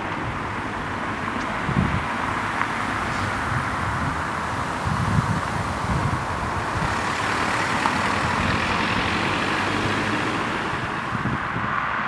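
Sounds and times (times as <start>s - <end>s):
outdoor rumble and hiss: 0.0s - 11.8s
wind buffeting microphone: 0.1s - 11.8s.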